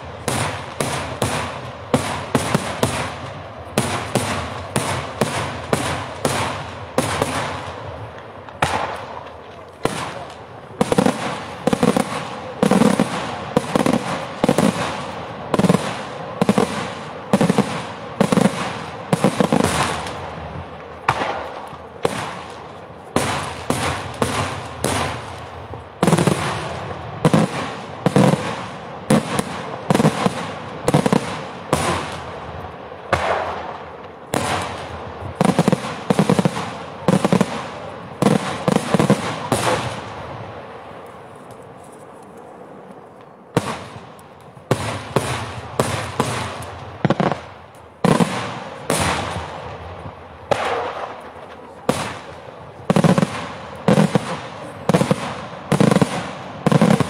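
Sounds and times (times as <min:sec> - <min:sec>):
fireworks bursting in sharp bangs: 0:00.0 - 0:40.9, 0:43.5 - 0:57.0.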